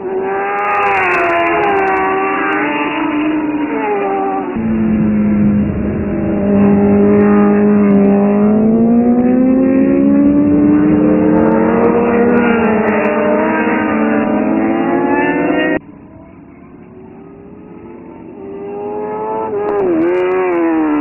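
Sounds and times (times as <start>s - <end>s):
racing motorcycle engines: 0.0s - 21.0s.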